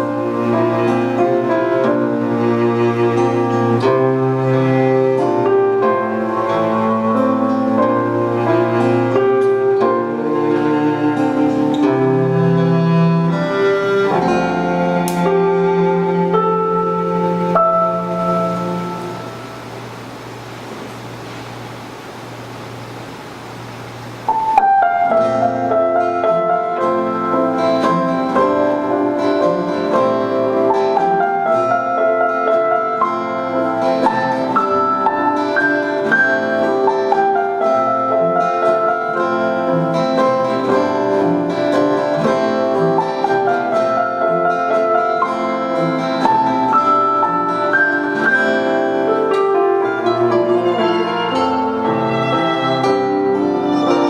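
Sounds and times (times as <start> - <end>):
piano and guitar ensemble music: 0.0 - 54.0
steady hiss: 0.0 - 54.0.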